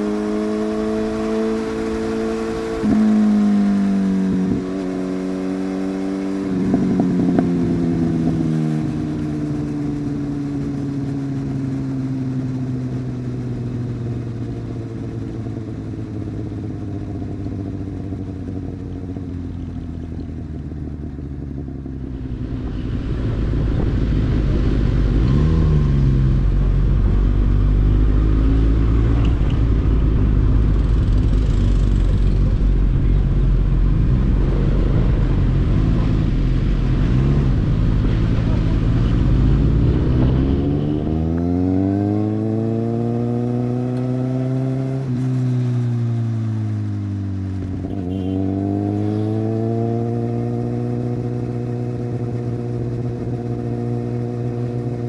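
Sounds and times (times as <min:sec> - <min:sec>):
motorcycle engine: 0:00.0 - 0:55.0
wind rumble: 0:00.0 - 0:55.0.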